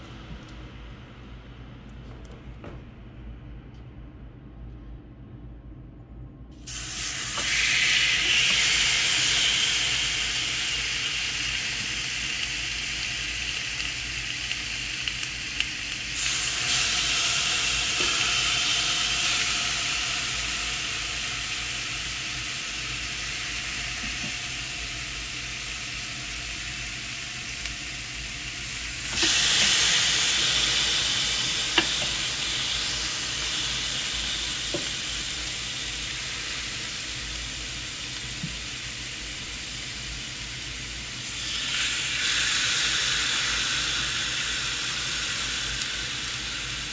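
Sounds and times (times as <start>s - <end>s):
pork chops sizzling on grill: 6.7s - 46.9s.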